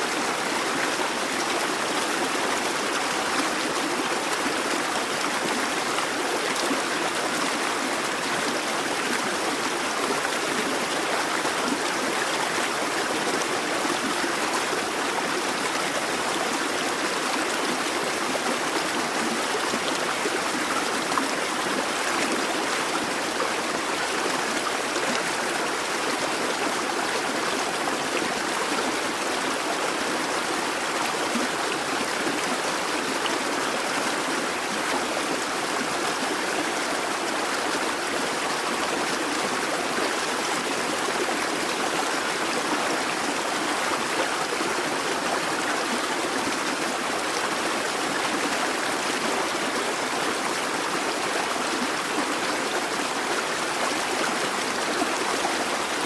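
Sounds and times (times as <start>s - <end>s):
brook water splashing over stones: 0.0s - 56.0s.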